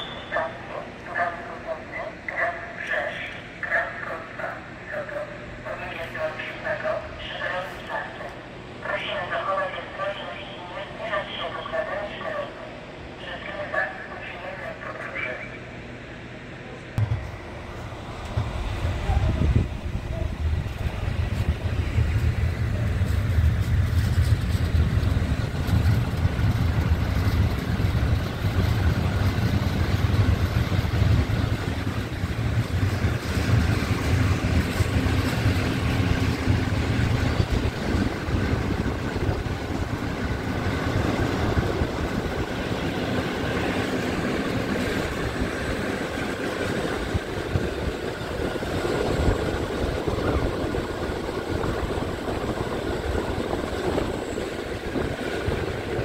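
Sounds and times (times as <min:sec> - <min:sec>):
train rumble: 0:00.0 - 0:56.0
train running hiss: 0:00.0 - 0:56.0.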